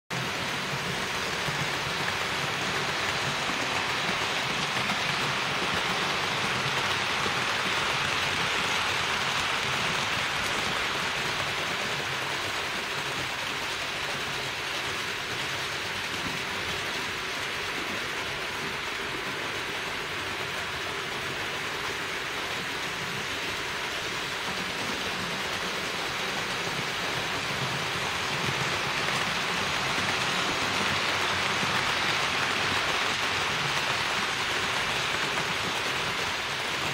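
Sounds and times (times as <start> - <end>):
model train whirring on track: 0.1 - 36.9.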